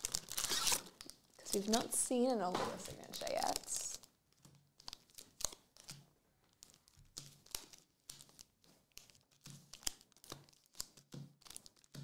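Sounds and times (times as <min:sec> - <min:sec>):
foil wrapper rustling: 0:00.0 - 0:12.0.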